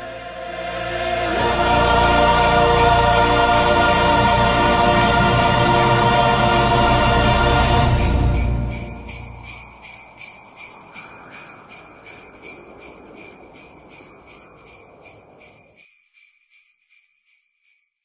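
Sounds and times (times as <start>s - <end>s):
sleigh bells shaking: 0.4s - 18.0s.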